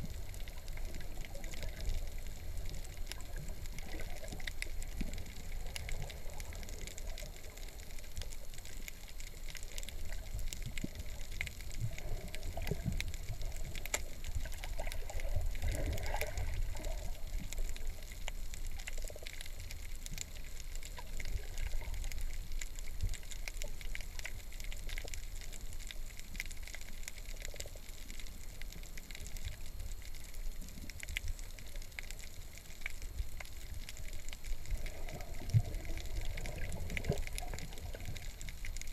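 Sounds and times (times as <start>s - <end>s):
faint clicks and crackles: 0.0s - 38.9s
muffled underwater rumble: 0.0s - 38.9s.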